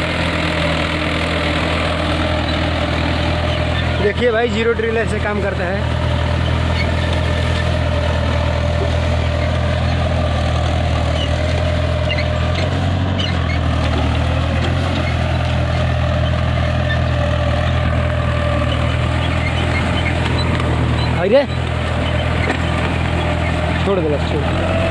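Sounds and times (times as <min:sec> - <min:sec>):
tractor diesel engine droning: 0:00.0 - 0:24.9.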